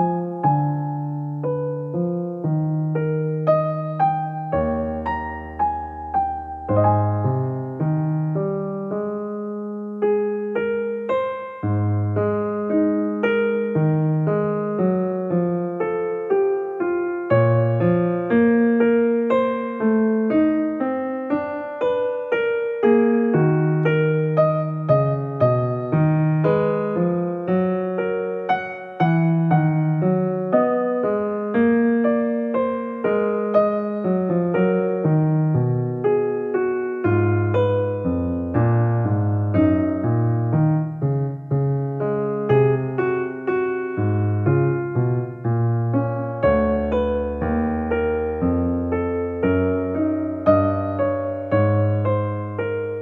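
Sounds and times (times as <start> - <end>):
piano keyboard chords: 0.0 - 53.0.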